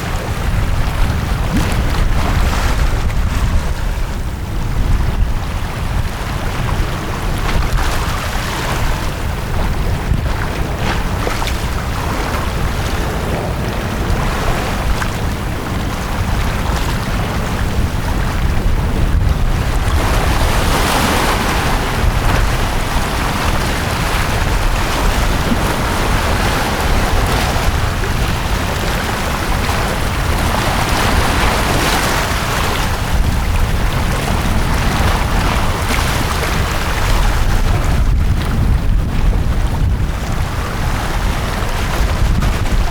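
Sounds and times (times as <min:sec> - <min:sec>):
sea waves washing onto beach: 0:00.0 - 0:42.9
wind rumble on microphone: 0:00.0 - 0:42.9.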